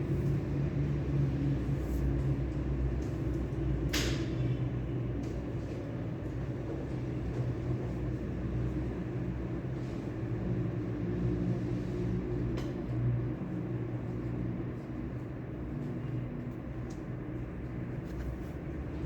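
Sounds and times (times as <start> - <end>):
room ambience rumble and hum: 0.0 - 19.0.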